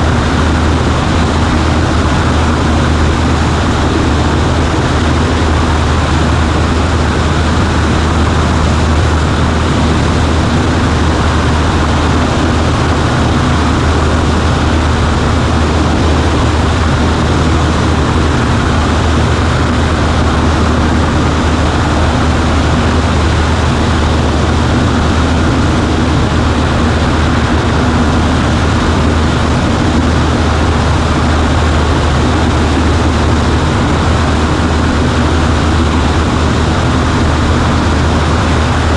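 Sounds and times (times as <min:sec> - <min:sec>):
airplane engine and propeller drone: 0:00.0 - 0:38.9.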